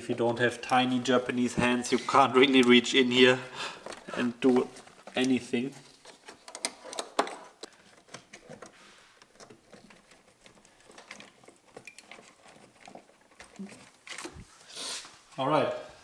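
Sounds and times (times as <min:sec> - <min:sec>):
hands clicking and rustling bulb: 0:00.0 - 0:14.4.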